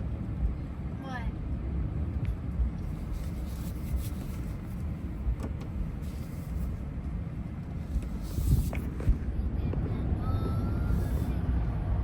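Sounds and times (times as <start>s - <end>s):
road and engine rumble in cab: 0.0s - 12.0s.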